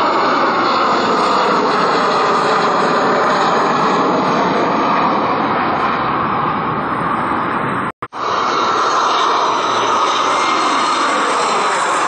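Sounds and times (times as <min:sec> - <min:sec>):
jet engines at climb power: 0:00.0 - 0:12.0.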